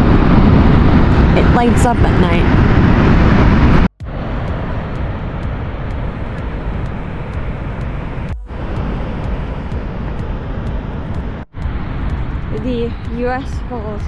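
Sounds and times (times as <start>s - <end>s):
passing traffic rumble: 0.0s - 14.0s.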